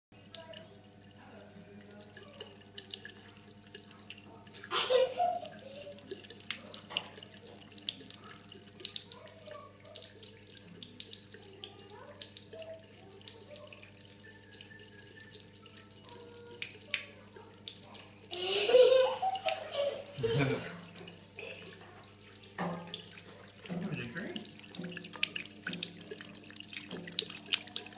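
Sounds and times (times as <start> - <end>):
cat lapping water: 0.2 - 18.3, 19.1 - 27.9
tap water trickling into basin: 0.2 - 27.9.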